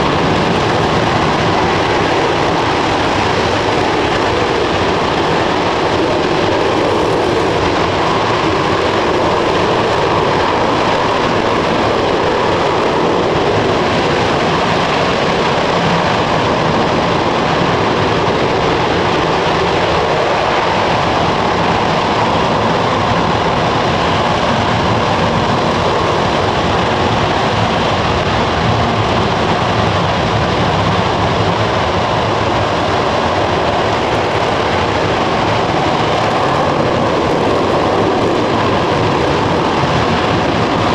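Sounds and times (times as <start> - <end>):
rocket engine roaring: 0.0 - 40.9.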